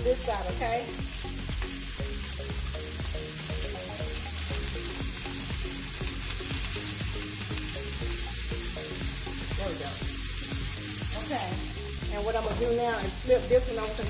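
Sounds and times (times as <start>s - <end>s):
steaks sizzling in skillet: 0.0s - 14.0s.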